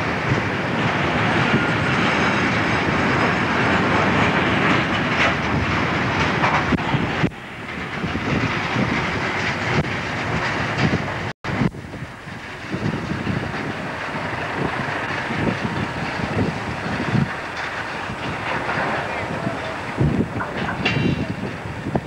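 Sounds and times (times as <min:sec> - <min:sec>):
freight train rolling past: 0:00.0 - 0:22.0
wheels clicking over rail joints: 0:00.0 - 0:22.0.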